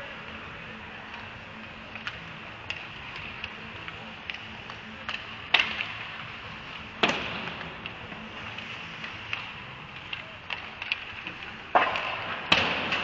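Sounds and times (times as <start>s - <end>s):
hockey sticks and puck tapping on ice: 0.0s - 13.0s
low arena hum: 0.0s - 13.0s.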